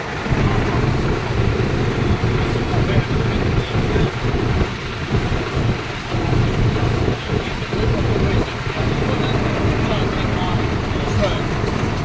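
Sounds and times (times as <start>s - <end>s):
tractor engines rumbling: 0.0s - 12.0s.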